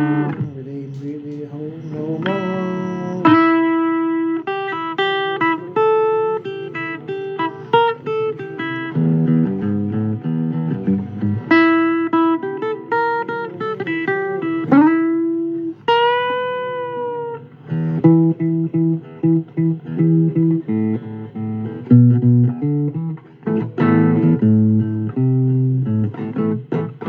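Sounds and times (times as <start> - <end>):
bluesy guitar playing: 0.0 - 27.0.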